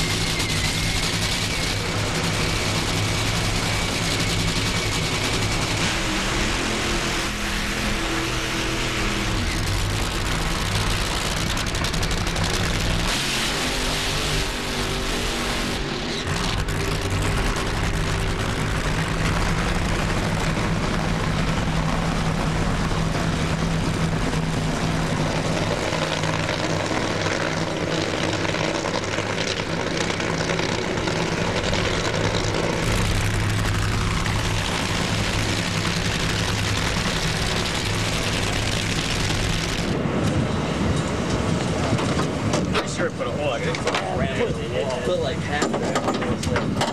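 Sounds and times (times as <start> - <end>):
drag racing engines running: 0.0 - 46.9.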